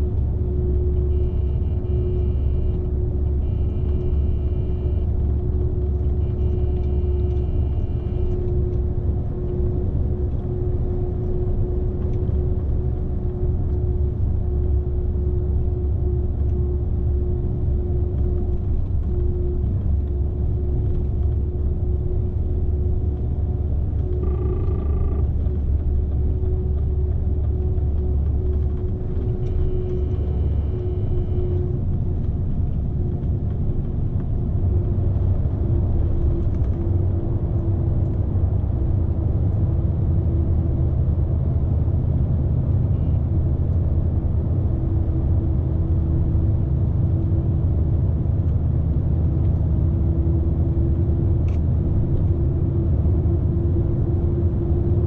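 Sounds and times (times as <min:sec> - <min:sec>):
road noise hum: 0:00.0 - 0:55.0
truck diesel engine rumble: 0:00.0 - 0:55.0.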